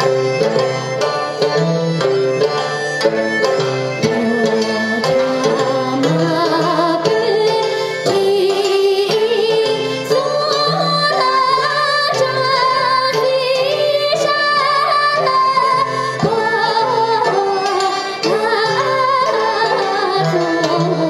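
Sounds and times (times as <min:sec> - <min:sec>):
hammered dulcimer: 0:00.0 - 0:21.0
plucked lutes: 0:00.0 - 0:21.0
woman singing: 0:04.0 - 0:21.0.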